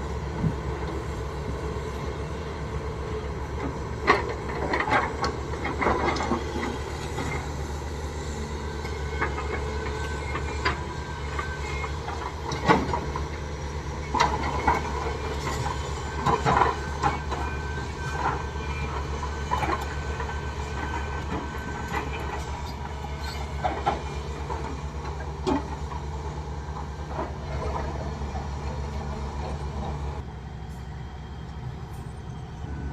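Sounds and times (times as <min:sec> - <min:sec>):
diesel earthmoving machine running: 0:00.0 - 0:32.9.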